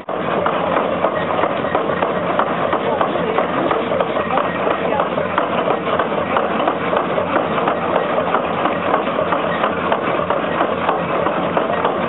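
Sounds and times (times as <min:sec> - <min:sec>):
engine-driven machinery clattering: 0:00.0 - 0:12.0.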